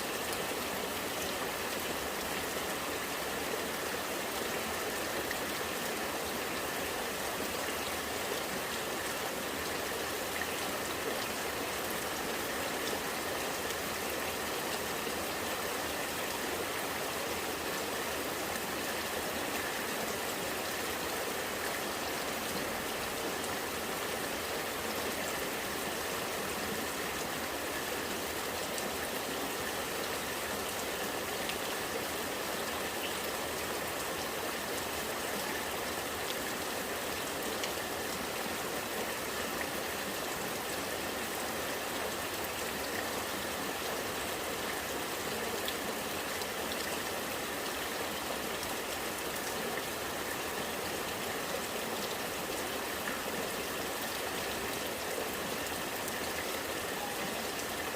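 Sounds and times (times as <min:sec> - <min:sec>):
rainwater flowing and gurgling: 0:00.0 - 0:57.9.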